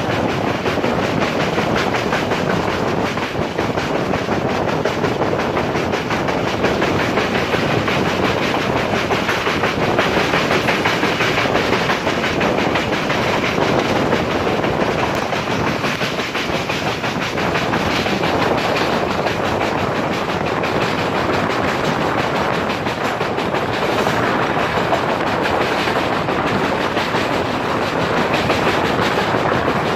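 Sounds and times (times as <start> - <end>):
train wheel and track noise: 0.0 - 29.9
wheels clattering over rail joints: 0.0 - 29.9.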